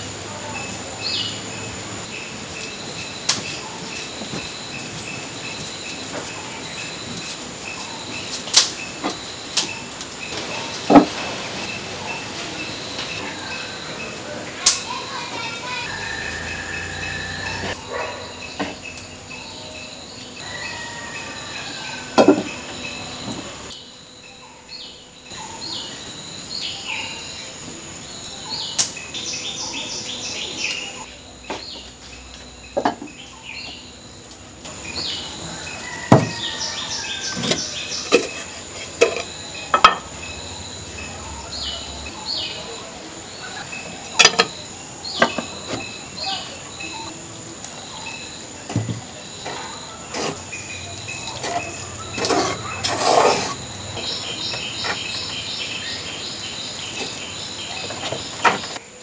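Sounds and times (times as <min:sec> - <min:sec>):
birds chirping: 0:00.0 - 0:59.0
high insect drone: 0:00.0 - 0:59.0.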